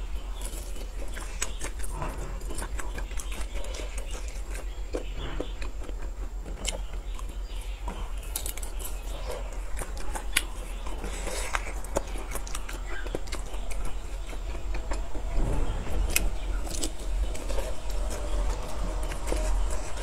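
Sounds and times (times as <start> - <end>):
chewing sausage: 0.0 - 20.0.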